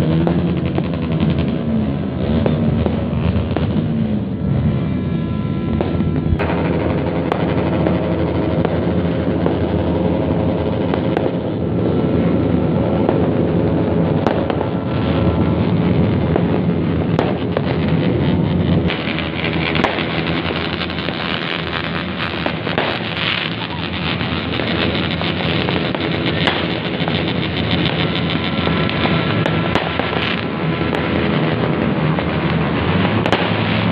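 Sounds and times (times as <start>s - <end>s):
many loud motorcycles running: 0.0s - 33.9s
sharp exhaust cracks: 0.0s - 33.9s.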